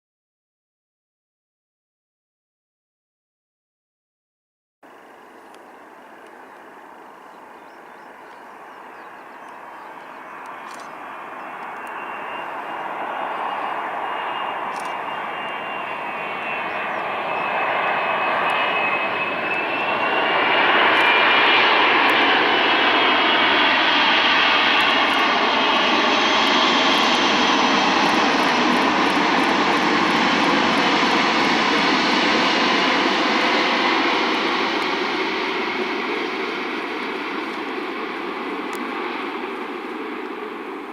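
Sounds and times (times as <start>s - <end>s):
jet engines whining rush: 4.9s - 40.9s.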